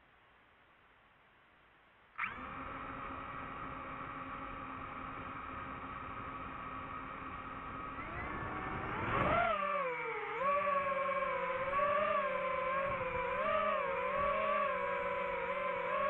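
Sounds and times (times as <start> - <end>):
drone motors whining: 2.2 - 16.0.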